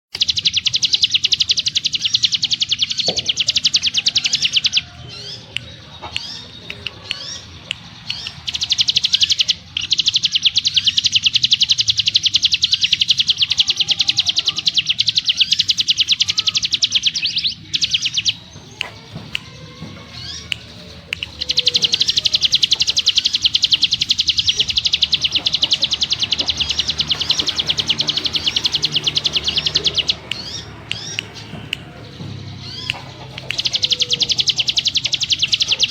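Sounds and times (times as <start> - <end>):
bird trilling: 0.2 - 35.9.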